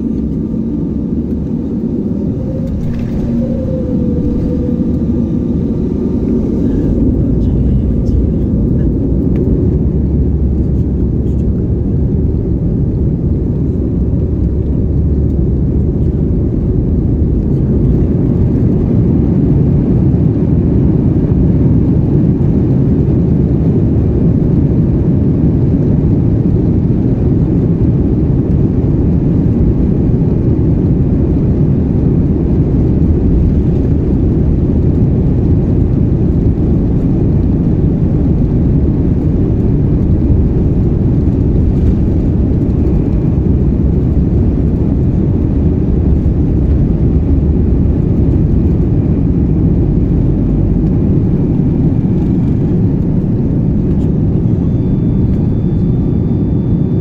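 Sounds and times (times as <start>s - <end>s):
jet engines low rumble in cabin: 0.0s - 57.0s.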